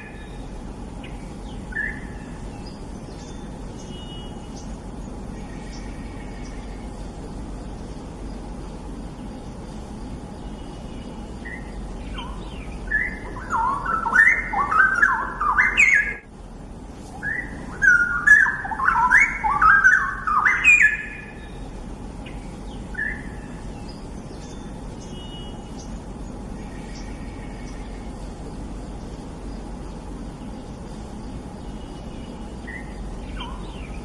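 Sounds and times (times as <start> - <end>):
bird singing warbled phrases: 0.0 - 34.0
steady background hiss: 0.0 - 34.0.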